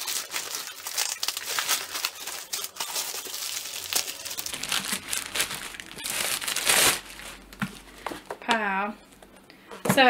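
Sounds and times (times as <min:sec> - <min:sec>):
plastic mailer bag crinkling: 0:00.0 - 0:08.1.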